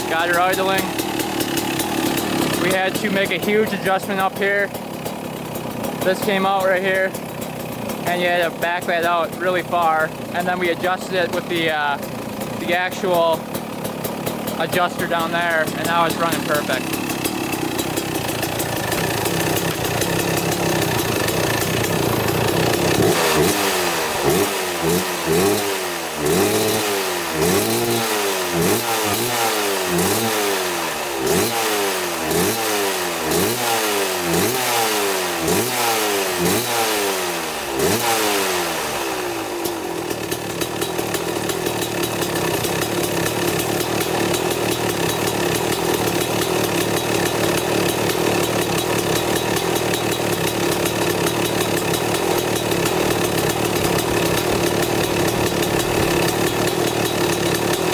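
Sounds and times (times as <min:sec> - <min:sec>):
engine throttle blips: 0:00.0 - 0:32.7, 0:33.3 - 0:57.9
two-stroke engine idling: 0:00.0 - 0:57.9.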